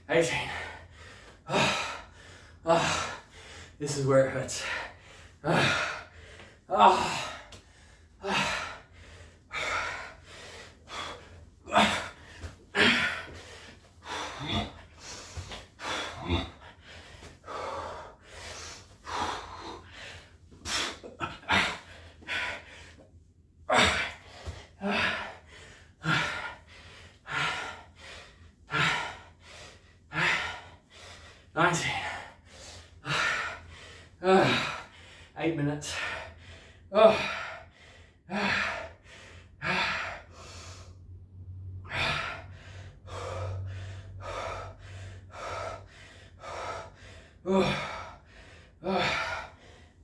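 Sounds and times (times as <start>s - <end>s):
man breathing hard: 0.1s - 50.0s.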